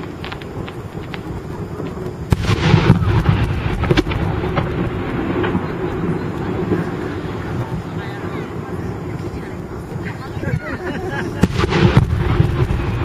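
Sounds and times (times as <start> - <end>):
fireworks crackling: 0.0 - 13.0
fireworks shells bursting: 0.0 - 13.0.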